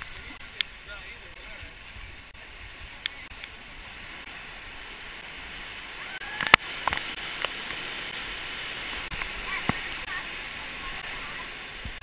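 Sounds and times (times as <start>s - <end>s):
white water rushing: 0.0s - 12.0s.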